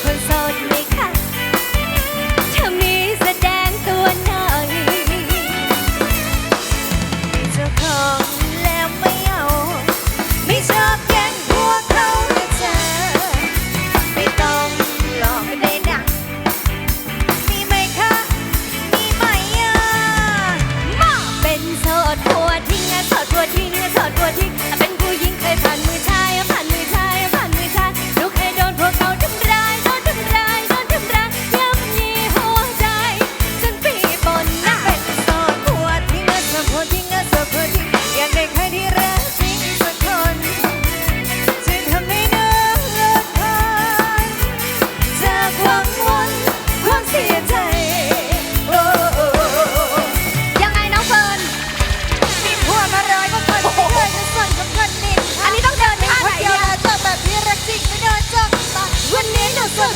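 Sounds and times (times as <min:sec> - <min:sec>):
drum kit beat: 0:00.0 - 0:59.9
melodic lead lines: 0:00.0 - 0:59.9.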